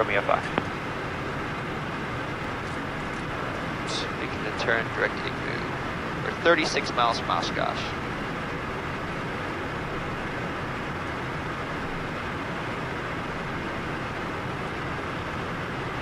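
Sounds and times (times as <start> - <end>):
jet cabin rushing noise: 0.0 - 16.0.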